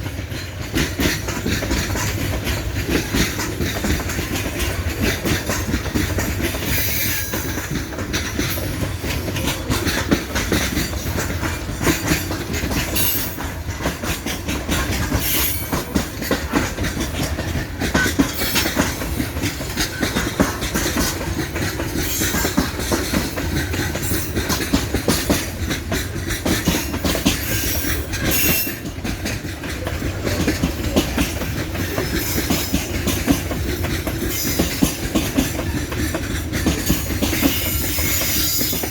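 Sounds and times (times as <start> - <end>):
wheels clickety-clack on rail joints: 0.0 - 38.9.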